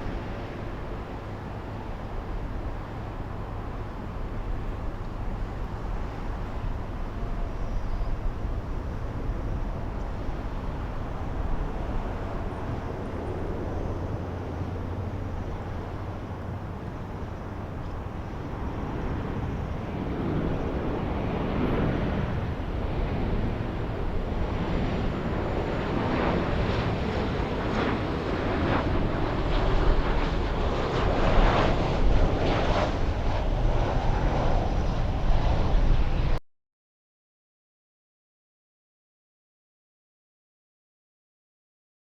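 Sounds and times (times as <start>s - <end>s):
jet engines roaring: 0.0s - 36.4s.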